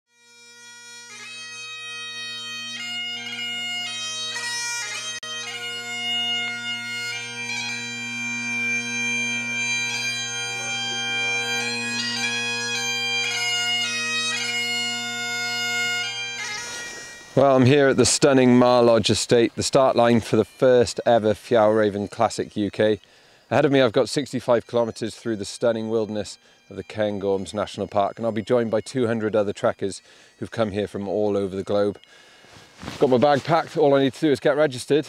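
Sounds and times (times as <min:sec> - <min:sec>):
bagpipe playing a tune: 0:00.1 - 0:35.0.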